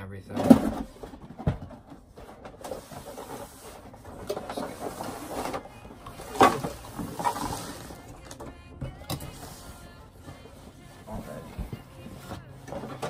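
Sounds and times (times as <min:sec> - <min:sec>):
cardboard rustling and scraping: 0:00.5 - 0:08.2, 0:09.3 - 0:13.0.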